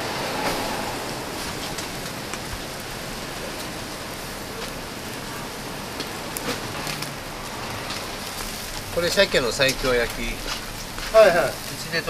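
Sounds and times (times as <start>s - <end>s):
fish sizzling on a grill: 0.0s - 12.0s
crackles and pops: 1.4s - 12.0s.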